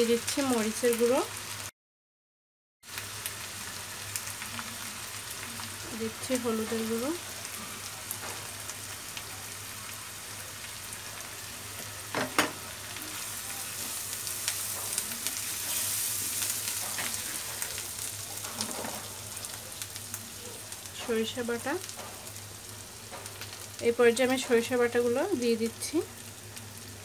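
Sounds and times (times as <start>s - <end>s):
onions sizzling in oil: 0.0s - 1.7s, 2.8s - 27.0s.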